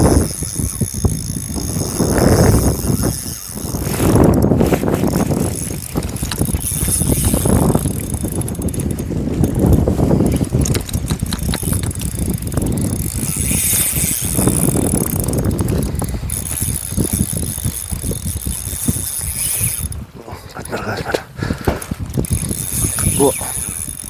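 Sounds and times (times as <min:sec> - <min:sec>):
fishing reel clicking: 0:00.0 - 0:20.9, 0:21.8 - 0:24.0.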